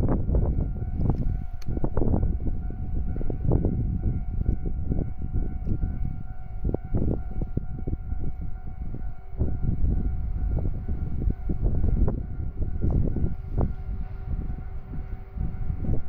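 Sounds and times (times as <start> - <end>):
crossing warning bell: 0.0 - 16.0
wind rumble on microphone: 0.0 - 16.0.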